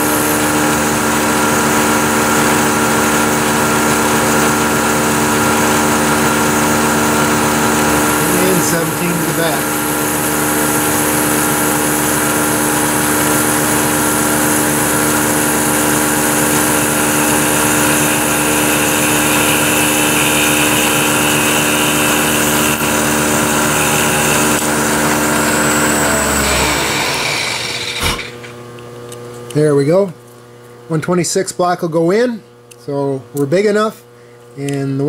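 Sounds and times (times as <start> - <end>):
milling machine spindle hum: 0.0 - 29.2.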